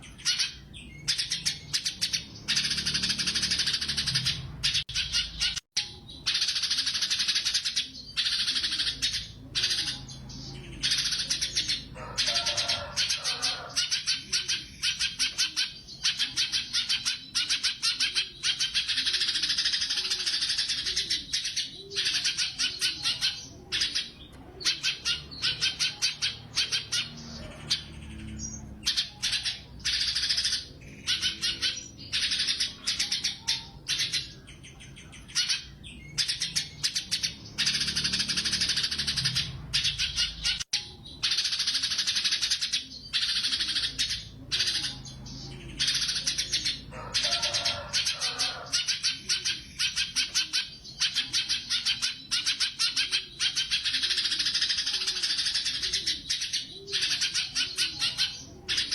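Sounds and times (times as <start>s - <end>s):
songbird trilling: 0.0s - 58.9s.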